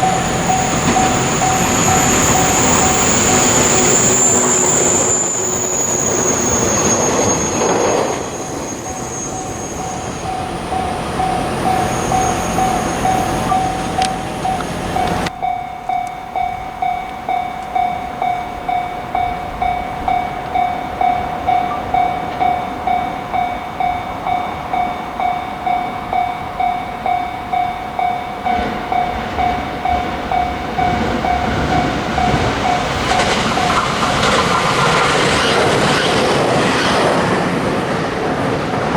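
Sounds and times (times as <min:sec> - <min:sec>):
level crossing alarm ringing: 0:00.0 - 0:35.4
high wheel squeal: 0:00.0 - 0:37.8
train passing: 0:00.0 - 0:38.9.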